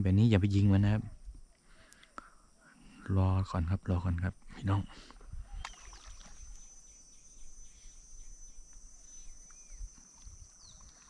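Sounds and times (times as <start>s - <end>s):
insects trilling: 0.0s - 11.0s
short insect chirps: 0.2s - 11.0s.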